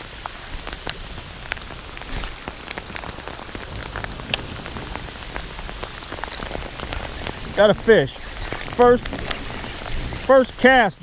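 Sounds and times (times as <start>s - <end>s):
rain pouring: 0.0s - 11.0s
raindrops tapping close by: 0.0s - 11.0s.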